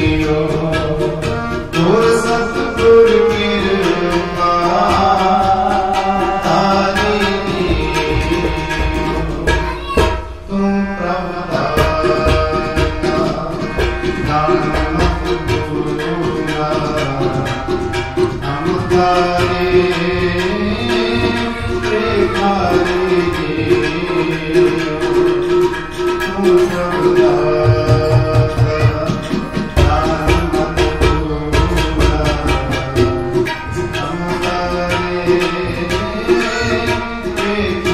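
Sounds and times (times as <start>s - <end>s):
harmonium chords: 0.0s - 37.9s
tabla strokes: 0.0s - 37.9s.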